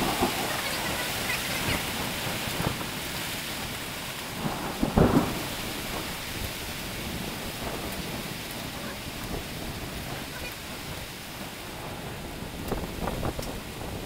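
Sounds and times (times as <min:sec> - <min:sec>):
hail and rain hissing: 0:00.0 - 0:14.0
hailstones ticking: 0:00.0 - 0:14.0.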